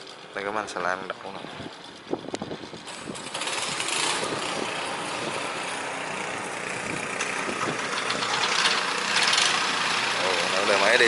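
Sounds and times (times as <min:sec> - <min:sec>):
boat engine starting and running: 0:01.2 - 0:11.0.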